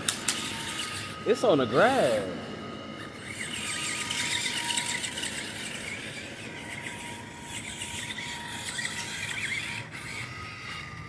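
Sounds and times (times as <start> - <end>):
toy car electric motors whirring: 0.0 - 11.0.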